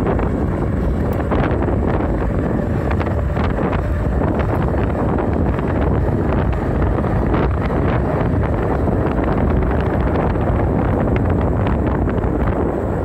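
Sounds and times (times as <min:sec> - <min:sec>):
wind roar on microphone: 0:00.0 - 0:13.0.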